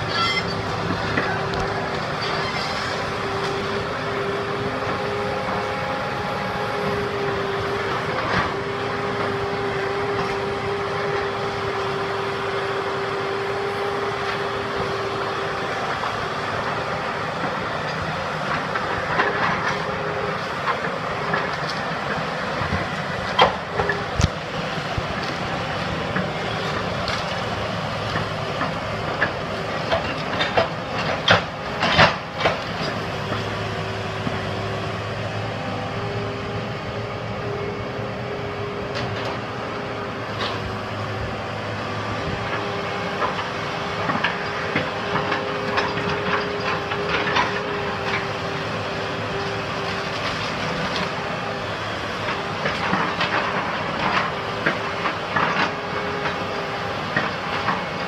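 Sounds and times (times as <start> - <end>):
excavator hydraulic whine: 0.0 - 58.0.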